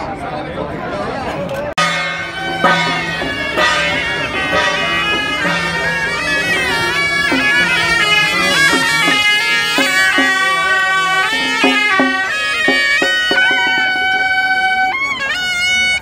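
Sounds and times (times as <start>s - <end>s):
shawm playing melody: 1.8s - 16.0s.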